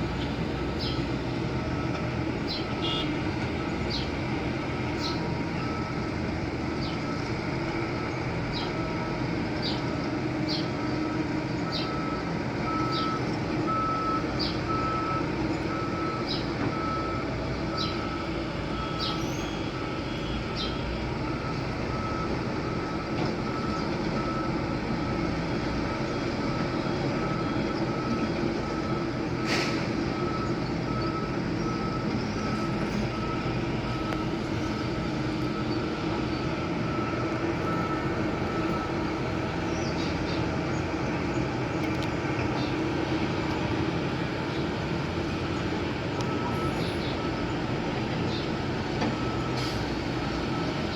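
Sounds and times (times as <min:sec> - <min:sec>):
construction machine engine running: 0:00.0 - 0:50.9
reversing alarm beeps: 0:00.0 - 0:50.9.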